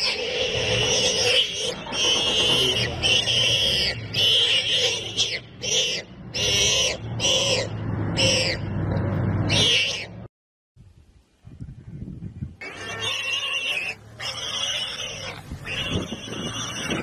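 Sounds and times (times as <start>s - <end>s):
warthog squealing: 0.0s - 8.7s, 9.5s - 10.2s, 12.6s - 17.0s.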